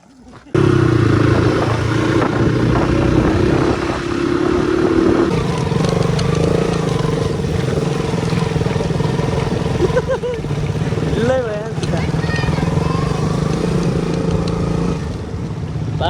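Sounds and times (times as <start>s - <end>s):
motorcycle engine running: 0.5s - 16.0s.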